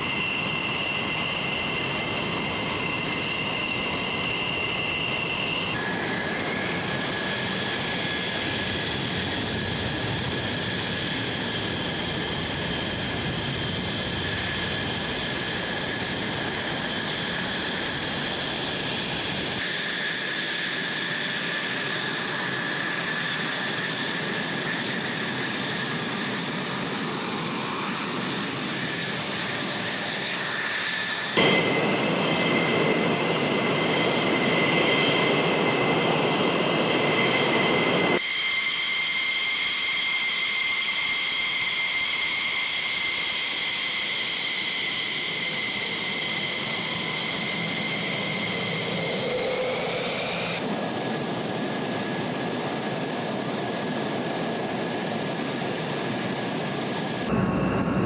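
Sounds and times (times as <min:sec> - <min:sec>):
high-pitched jet engine whine: 0:00.0 - 0:58.0
jet engines rushing: 0:00.0 - 0:58.0.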